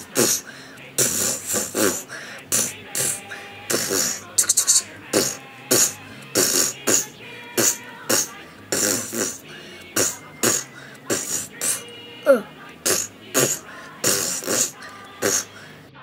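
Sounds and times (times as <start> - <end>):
mouth punching and hissing noises: 0.0 - 12.0, 12.8 - 15.8.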